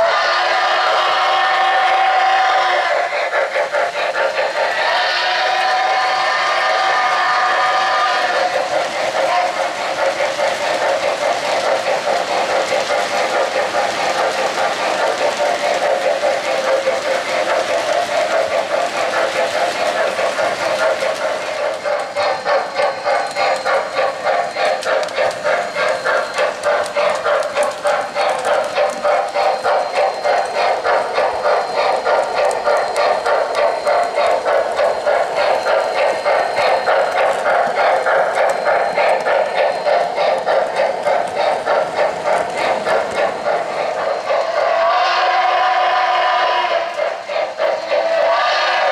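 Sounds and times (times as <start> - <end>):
model steam locomotive chuffing: 0.0 - 48.9
rolling rumble of model train cars: 0.0 - 48.9.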